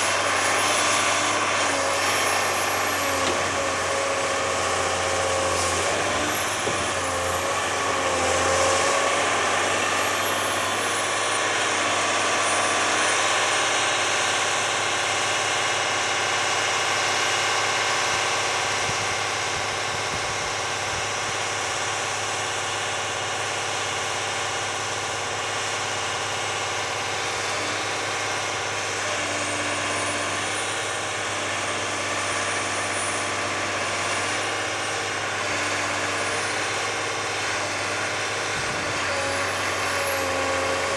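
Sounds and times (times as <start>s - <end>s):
heavy machine engine idling: 0.0s - 40.9s.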